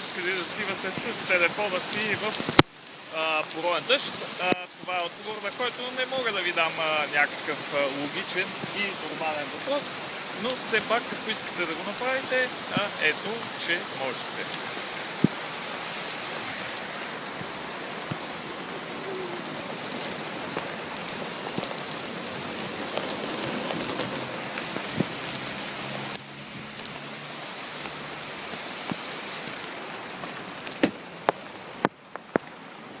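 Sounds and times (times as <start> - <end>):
heavy rain falling: 0.0 - 33.0
raindrops tapping close by: 0.0 - 33.0.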